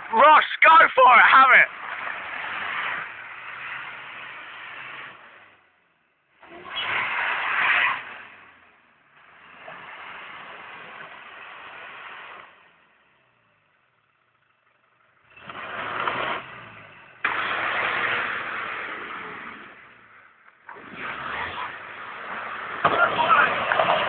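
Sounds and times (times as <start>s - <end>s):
off-road vehicle engine revving: 1.4s - 24.0s.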